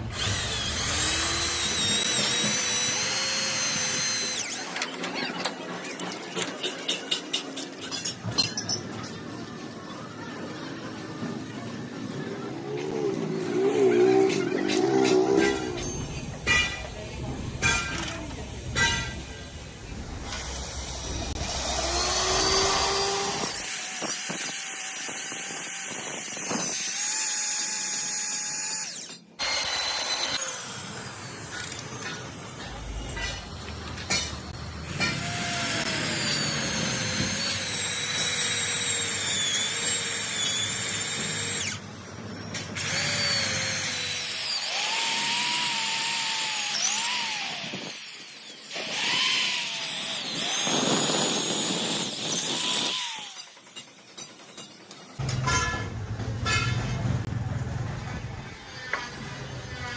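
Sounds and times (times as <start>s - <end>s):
power tools whining: 0.0s - 6.3s, 11.2s - 55.0s.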